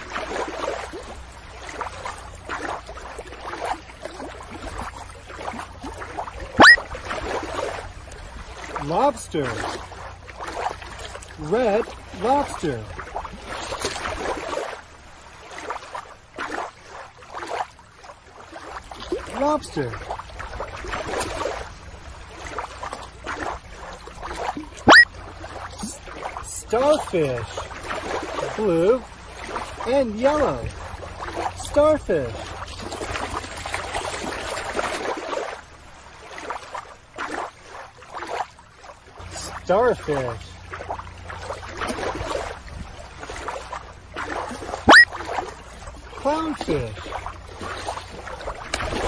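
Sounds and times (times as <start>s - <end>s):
water lapping at shoreline: 0.0s - 49.0s.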